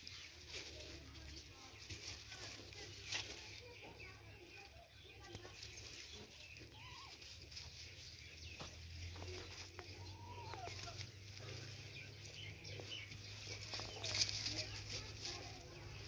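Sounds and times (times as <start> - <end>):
dry straw rustling: 0.0 - 16.0.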